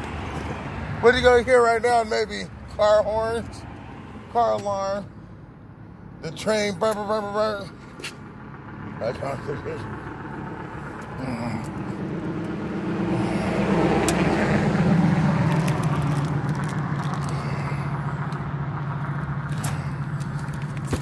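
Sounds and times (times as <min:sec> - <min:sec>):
vehicle passing: 0:00.0 - 0:21.0.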